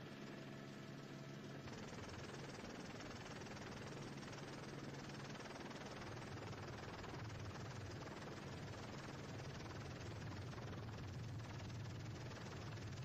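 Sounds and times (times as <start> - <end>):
helicopter engine and rotor noise: 0.0 - 13.0.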